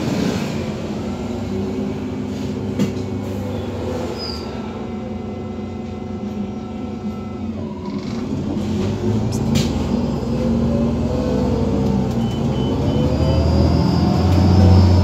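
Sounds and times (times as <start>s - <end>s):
bus engine hum: 0.0s - 15.0s
road noise: 0.0s - 15.0s.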